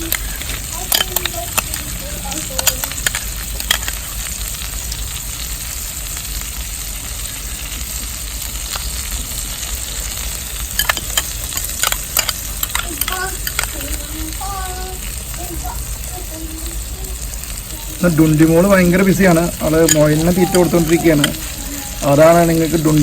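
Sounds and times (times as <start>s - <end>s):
chicken sizzling on hot stone: 0.0s - 23.0s.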